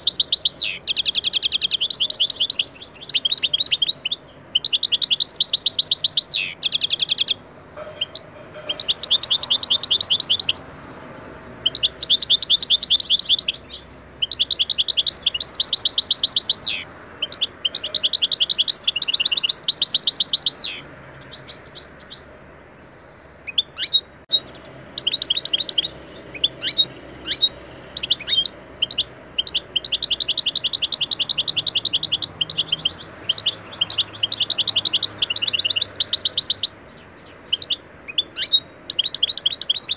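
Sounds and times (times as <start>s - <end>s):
bird call notes: 0.0s - 10.8s, 11.4s - 22.3s, 23.4s - 39.9s
goldfinch trilling song: 0.0s - 22.3s, 23.1s - 39.9s.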